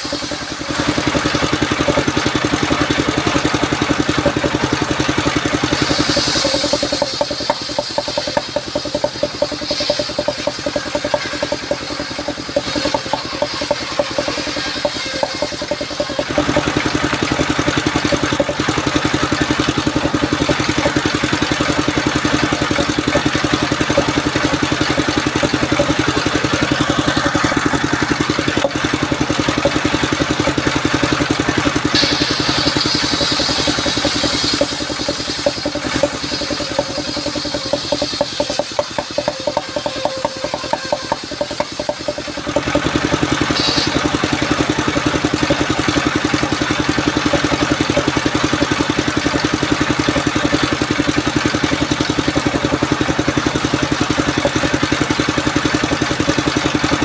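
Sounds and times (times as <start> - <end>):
saw blade cutting wood: 0.0 - 57.0
sawmill engine running: 0.0 - 57.0.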